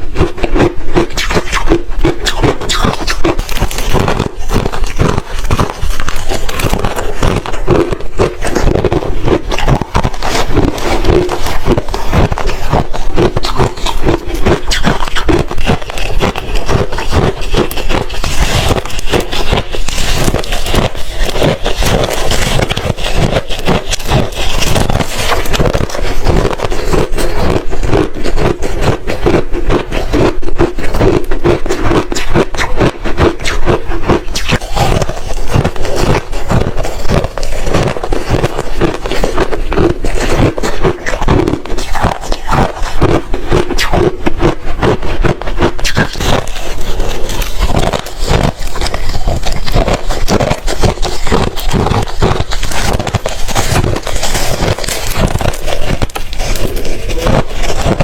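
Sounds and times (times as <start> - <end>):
ice being crunched and chewed: 0.0 - 58.0.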